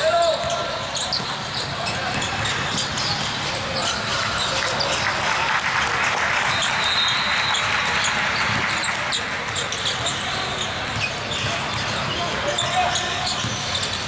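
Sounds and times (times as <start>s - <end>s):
shoe squeak: 0.0s - 5.2s, 6.4s - 14.0s
hubbub of voices: 0.0s - 14.0s.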